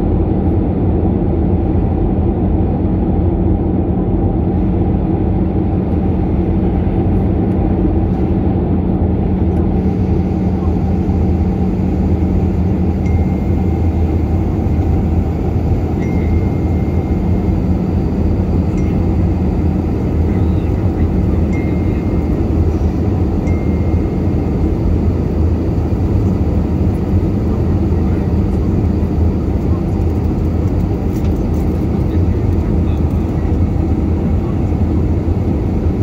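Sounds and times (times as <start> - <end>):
jet airliner cabin noise: 0.0 - 36.0.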